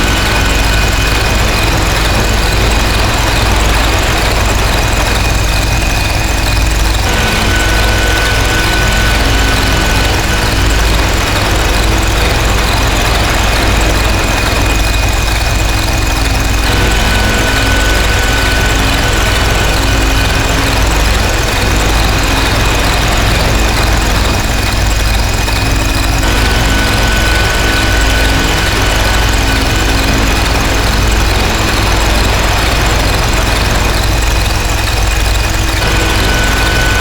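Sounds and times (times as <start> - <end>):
deep rumble: 0.0 - 37.0
distorted noise drone: 0.0 - 37.0.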